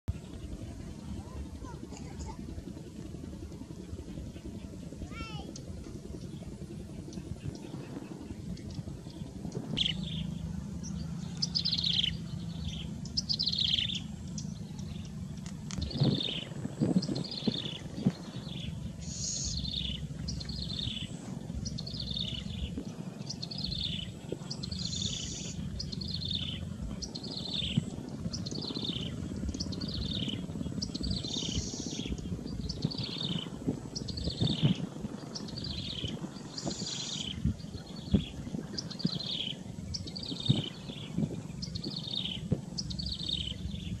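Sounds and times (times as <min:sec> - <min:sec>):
low background rumble: 0:00.0 - 0:44.0.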